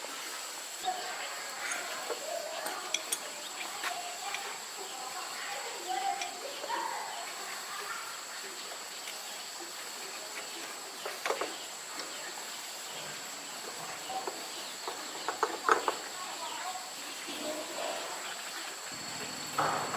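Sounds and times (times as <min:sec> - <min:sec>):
insects chirring: 0:00.0 - 0:19.9.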